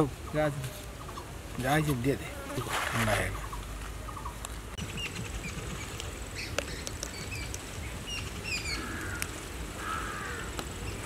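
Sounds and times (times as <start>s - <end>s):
low steady background noise: 0.0s - 11.0s
small birds chirping: 0.0s - 11.0s.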